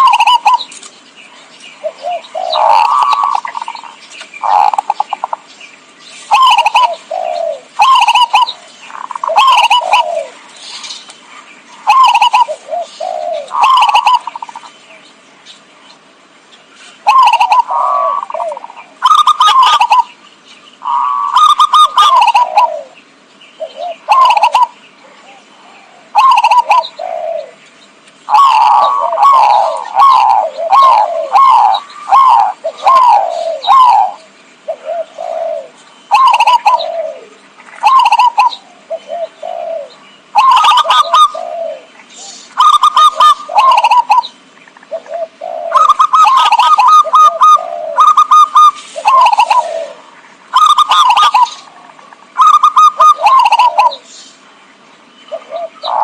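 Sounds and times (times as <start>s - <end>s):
dove cooing: 0.0s - 0.8s, 1.8s - 5.5s, 6.2s - 14.8s, 17.0s - 20.2s, 20.8s - 23.0s, 23.6s - 27.6s, 28.3s - 54.1s, 55.3s - 56.0s.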